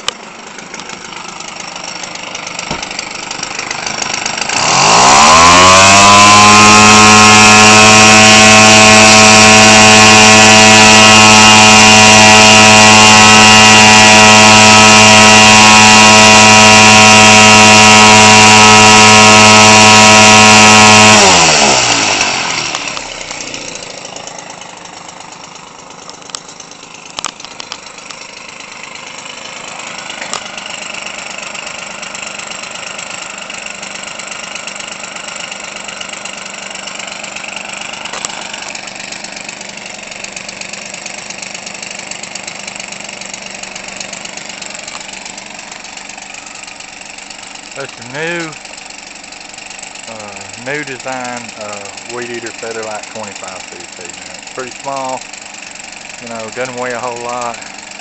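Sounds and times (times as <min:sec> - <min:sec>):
model airplane engine revving: 0:00.0 - 0:58.0.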